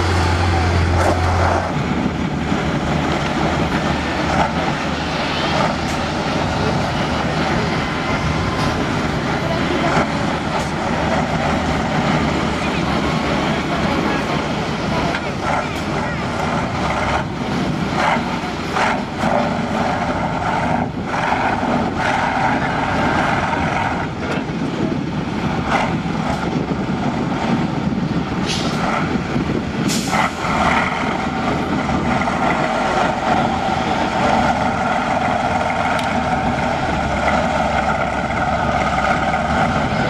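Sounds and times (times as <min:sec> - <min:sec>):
diesel truck engine under load: 0:00.0 - 0:40.0.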